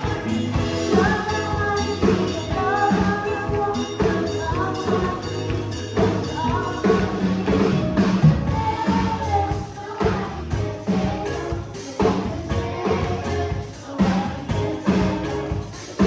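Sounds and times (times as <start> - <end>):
bass line: 0.0 - 15.7
children's choir singing: 0.0 - 16.0
drum kit beat: 0.0 - 16.0.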